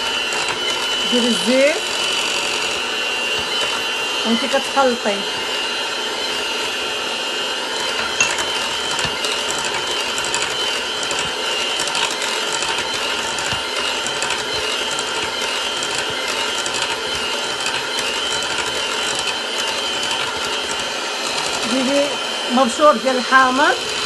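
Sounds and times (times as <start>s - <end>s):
electric mixer running: 0.0s - 24.0s.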